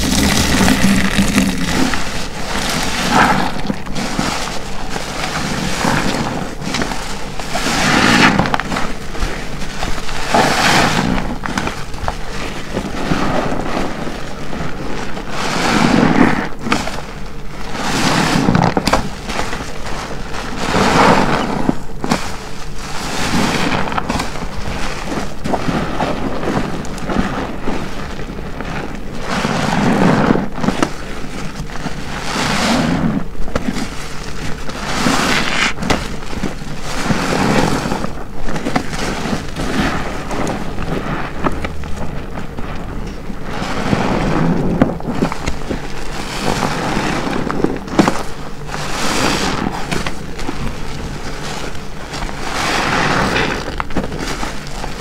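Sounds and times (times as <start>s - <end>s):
soapy sponge squelching: 0.0s - 55.0s.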